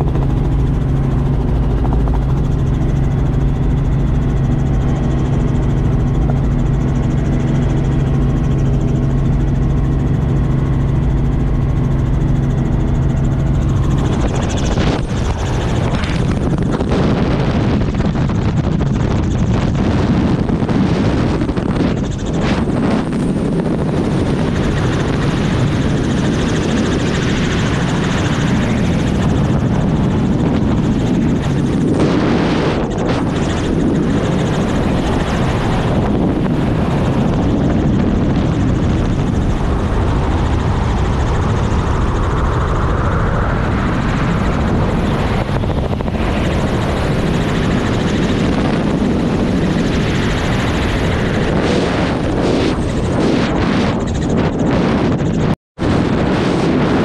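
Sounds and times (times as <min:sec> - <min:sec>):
helicopter rotor and engine: 0:00.0 - 0:57.0
wind buffeting microphone: 0:00.0 - 0:57.0.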